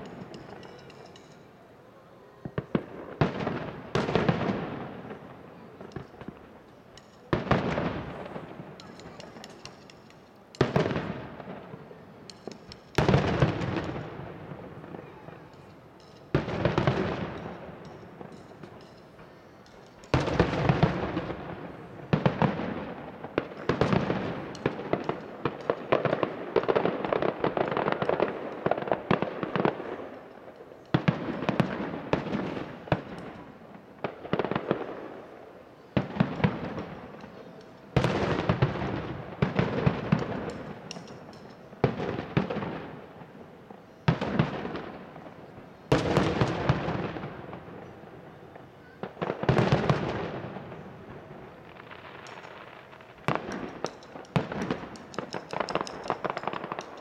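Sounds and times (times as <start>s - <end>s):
fireworks bangs with crackling: 0.0s - 1.7s, 2.4s - 57.0s.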